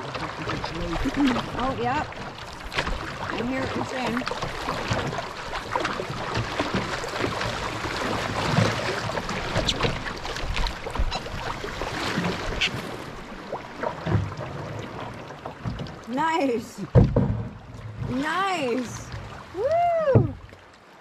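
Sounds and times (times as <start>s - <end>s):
paddle splashes: 0.0s - 21.0s
water rushing against hull: 0.0s - 21.0s.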